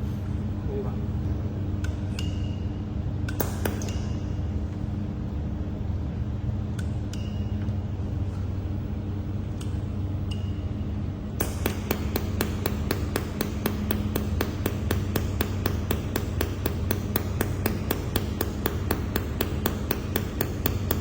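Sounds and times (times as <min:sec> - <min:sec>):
machine low hum: 0:00.0 - 0:21.0.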